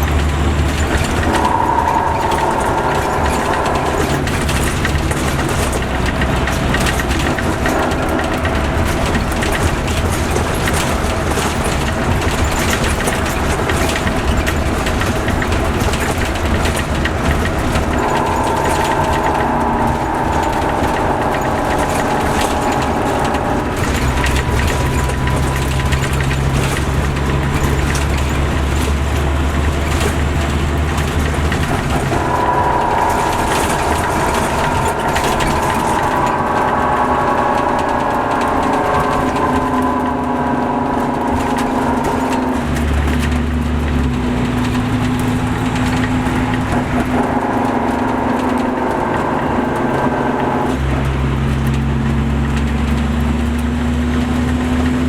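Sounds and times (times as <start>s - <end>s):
high whine: 0.0s - 51.6s
diesel coach engine running: 0.0s - 55.0s.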